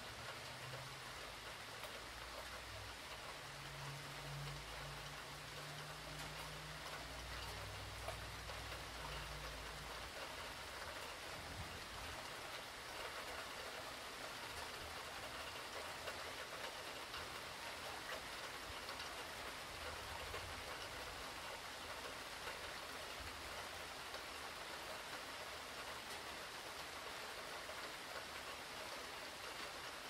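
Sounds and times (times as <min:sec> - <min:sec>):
rain drops ticking on a surface: 0:00.0 - 0:30.0.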